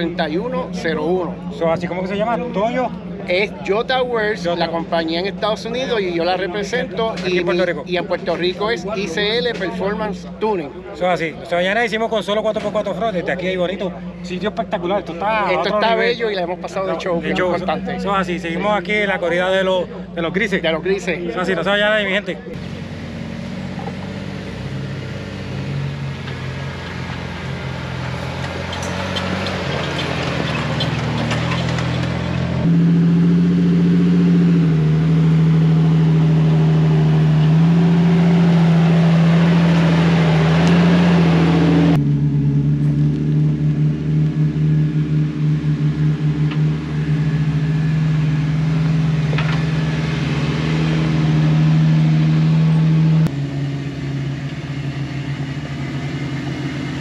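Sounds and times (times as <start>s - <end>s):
off-road vehicle engines at low speed: 0.0s - 57.0s.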